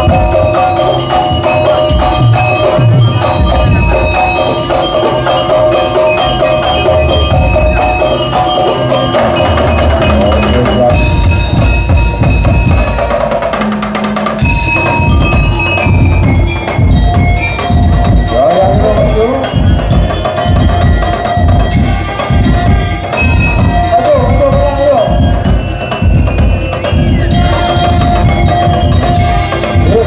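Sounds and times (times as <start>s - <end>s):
melody line: 0.0s - 30.0s
percussion ensemble drumming: 0.0s - 30.0s.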